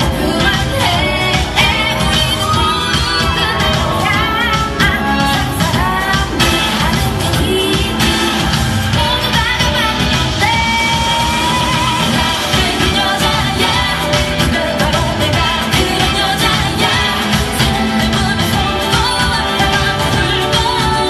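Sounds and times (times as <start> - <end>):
steady dance beat: 0.0 - 21.0
women singing: 0.0 - 21.0.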